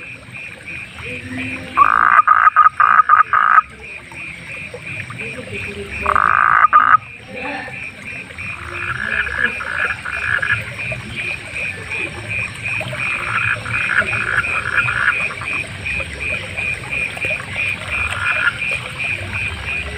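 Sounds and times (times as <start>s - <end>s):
frog high repeating call: 0.0s - 19.9s
frogs croaking rapidly: 0.0s - 19.9s.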